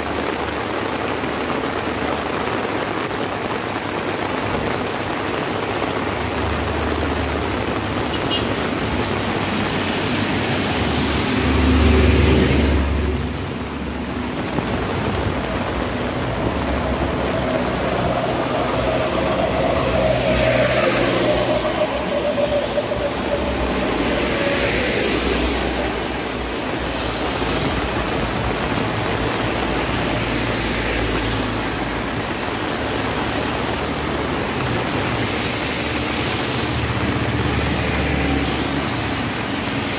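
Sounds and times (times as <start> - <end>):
heavy rain falling: 0.0 - 39.9
vehicles passing on wet road: 0.0 - 39.9.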